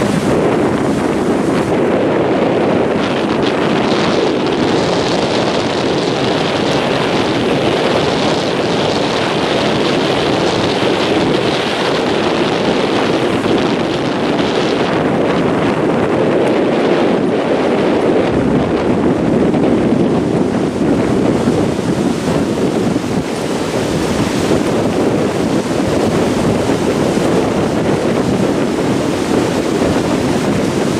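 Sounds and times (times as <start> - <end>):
surf washing on reef: 0.0 - 30.9
wind buffeting microphone: 0.0 - 30.9.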